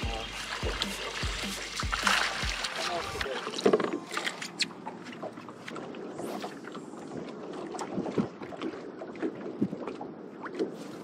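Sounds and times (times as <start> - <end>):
waves lapping against boat hull: 0.0 - 11.0.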